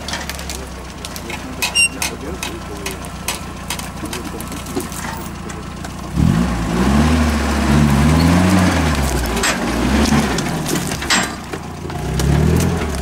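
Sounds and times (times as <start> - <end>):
branches cracking against vehicle: 0.0 - 13.0
engine revving under load: 0.0 - 13.0.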